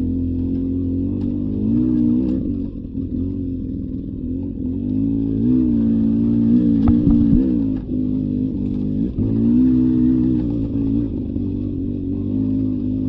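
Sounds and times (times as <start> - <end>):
two-stroke dirt bike engine revving: 0.0 - 13.0.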